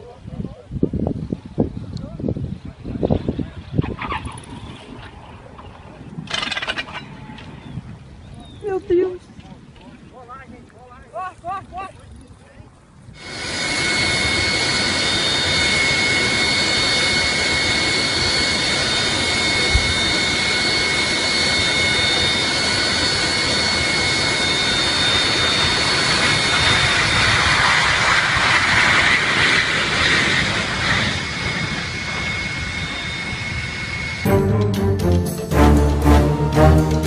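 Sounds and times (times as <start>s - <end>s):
jet engines roaring with high whine: 0.0s - 37.0s.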